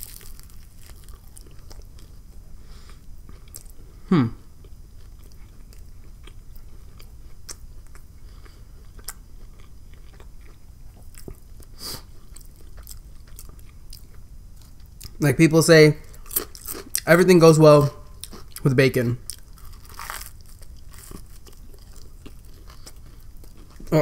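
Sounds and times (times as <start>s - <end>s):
chewing sandwich: 0.0s - 3.8s, 4.6s - 15.2s, 16.1s - 17.0s, 18.1s - 18.6s, 19.2s - 23.9s.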